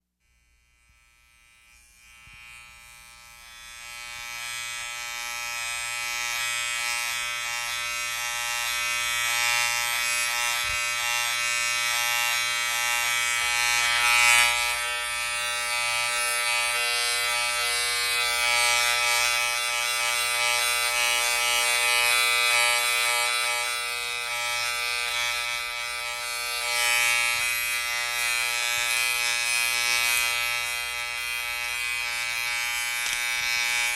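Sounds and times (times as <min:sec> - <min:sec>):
electric razor buzzing: 0:00.2 - 0:33.9.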